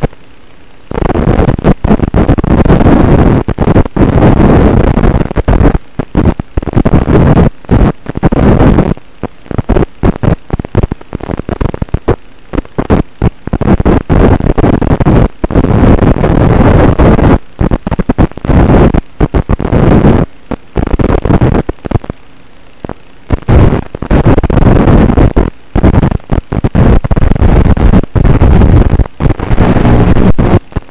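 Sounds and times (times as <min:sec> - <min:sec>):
harsh rushing noise: 0:00.9 - 0:22.1, 0:22.8 - 0:30.9.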